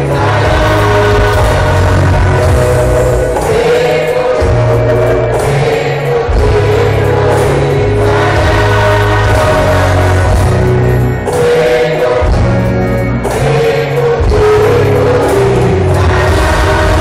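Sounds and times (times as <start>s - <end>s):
gospel choir singing: 0.0s - 17.0s
heavy bass accompaniment: 0.0s - 17.0s.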